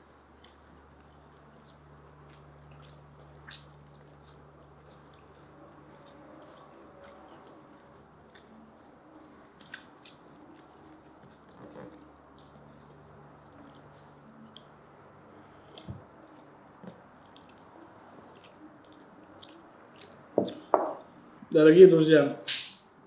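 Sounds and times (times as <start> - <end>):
chewing with wet clicks: 0.2 - 20.7.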